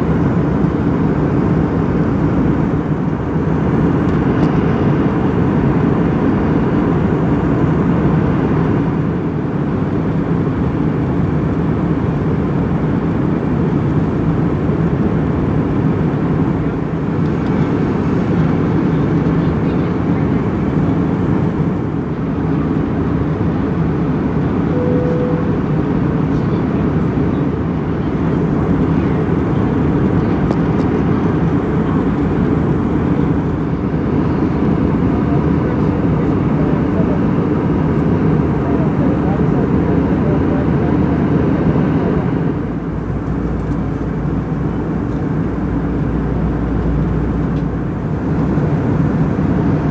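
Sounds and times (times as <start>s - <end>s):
jet engines and airflow in cabin: 0.0s - 49.9s.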